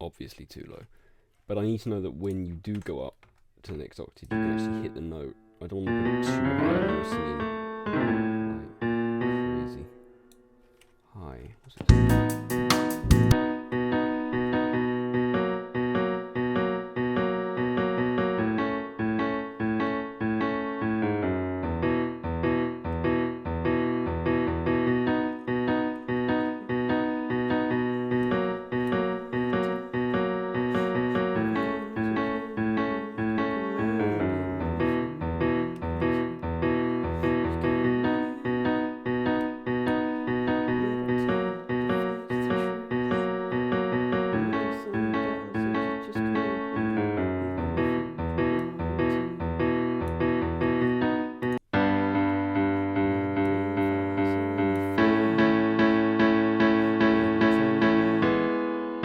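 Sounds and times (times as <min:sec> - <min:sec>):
piano playing repeated chords: 0:04.3 - 0:10.9, 0:11.9 - 0:59.0.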